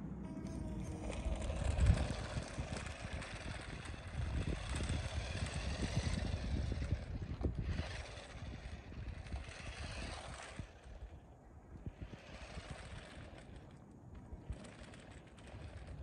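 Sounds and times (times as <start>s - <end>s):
remote-control car motor whine: 0.0s - 16.0s.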